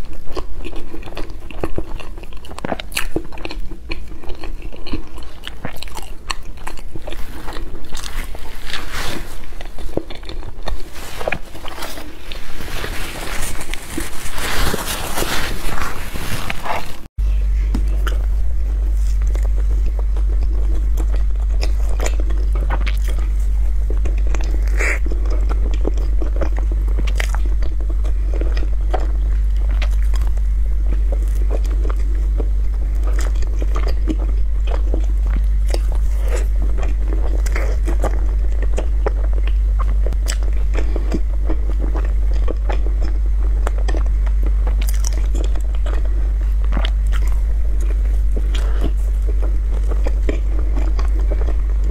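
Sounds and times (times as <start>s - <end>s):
person chewing wetly: 0.0s - 17.1s, 17.7s - 51.9s
steady low hum: 0.0s - 51.9s.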